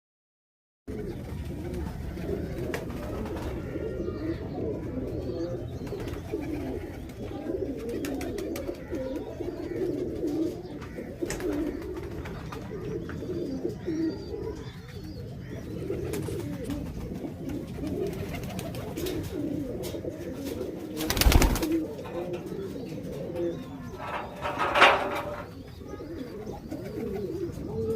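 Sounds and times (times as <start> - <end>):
pigeons cooing: 0.9 - 27.9.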